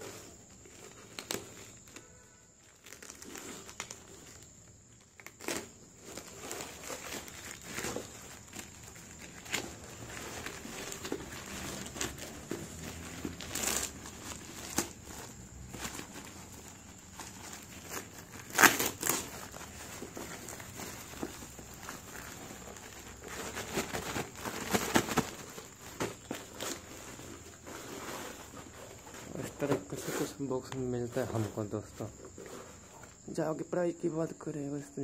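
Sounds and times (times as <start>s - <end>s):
plastic bag crinkling: 0.0s - 29.8s
plastic tearing and scraping: 0.0s - 33.2s.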